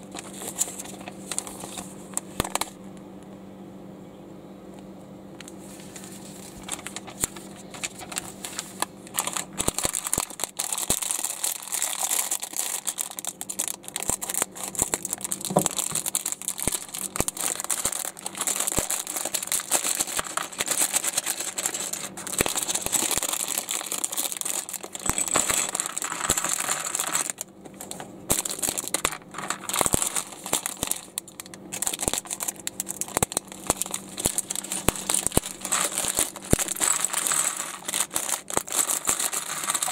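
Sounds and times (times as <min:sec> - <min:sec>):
plastic packaging crinkling: 0:00.0 - 0:02.8, 0:05.7 - 0:39.9.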